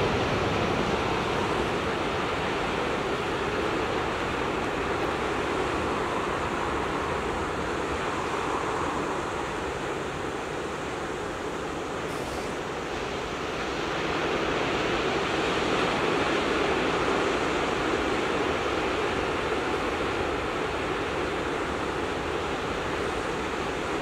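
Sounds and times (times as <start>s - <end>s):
surf washing over rocky shore: 0.0s - 24.0s.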